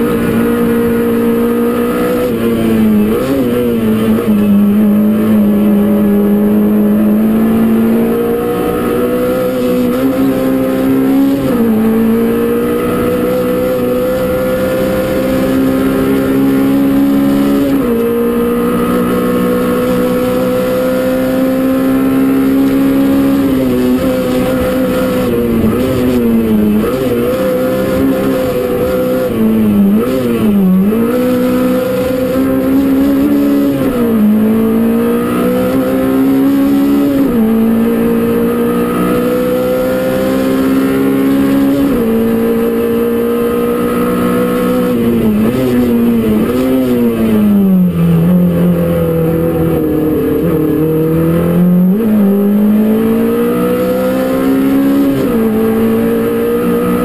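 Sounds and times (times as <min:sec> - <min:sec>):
rally car engine at high revs: 0:00.0 - 0:57.0.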